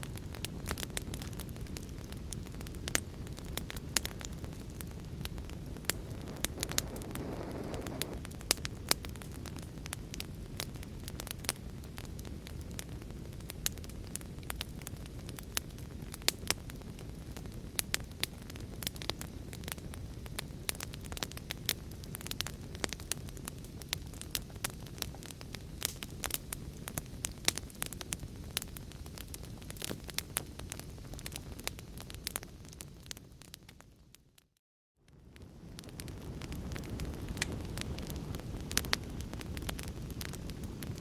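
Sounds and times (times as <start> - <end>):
low rumble of flames: 0.0 - 34.5, 35.1 - 41.0
fire crackling and popping: 0.0 - 41.0.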